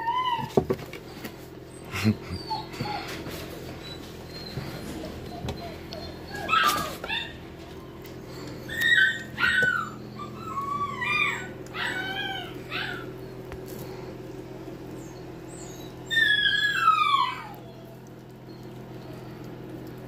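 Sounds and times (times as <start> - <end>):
puppy whining: 0.0 - 20.0.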